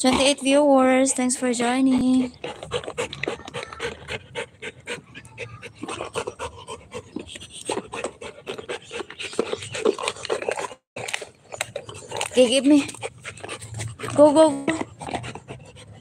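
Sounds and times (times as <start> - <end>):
dog panting: 0.0 - 10.8, 11.4 - 16.0
dog chewing rubber ball: 0.0 - 16.0.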